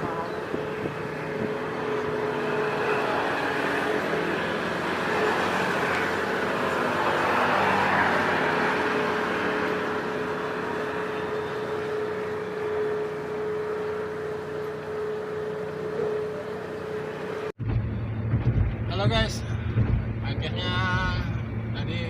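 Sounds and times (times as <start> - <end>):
vehicle passing: 0.0 - 22.0.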